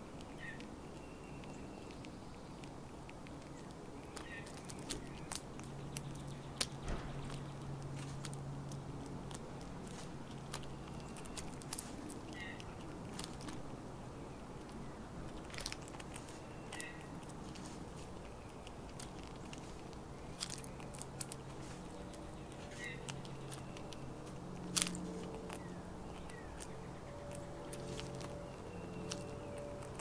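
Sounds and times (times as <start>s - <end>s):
squirrel crunching food: 0.0s - 30.0s.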